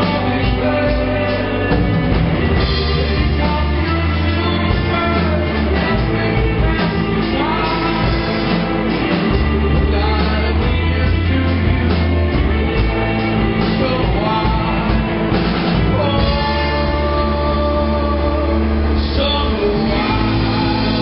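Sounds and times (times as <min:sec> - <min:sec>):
bass guitar: 0:00.0 - 0:21.0
drum kit: 0:00.0 - 0:21.0
electric guitars: 0:00.0 - 0:21.0
man singing: 0:00.0 - 0:21.0.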